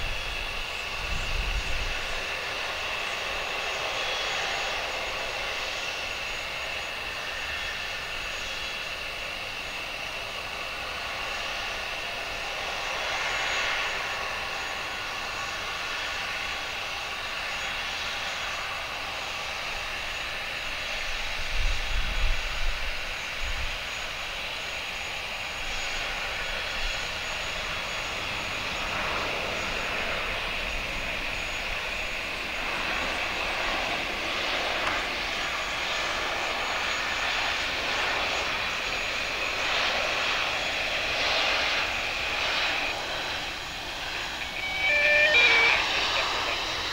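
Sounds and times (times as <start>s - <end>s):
jet engines whining: 0.0s - 46.9s.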